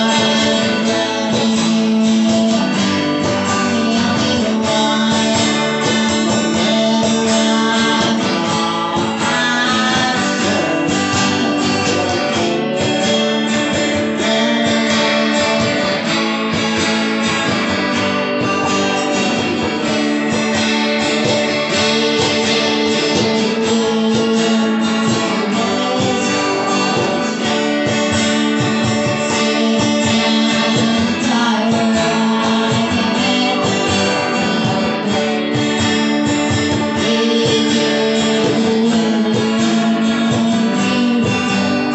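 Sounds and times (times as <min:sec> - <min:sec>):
acoustic guitars strumming: 0:00.0 - 0:41.9
hand percussion: 0:00.0 - 0:41.9.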